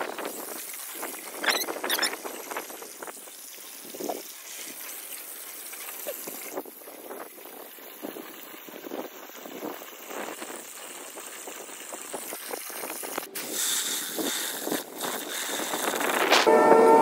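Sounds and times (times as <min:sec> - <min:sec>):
hose water splashing into tub: 0:00.0 - 0:16.6.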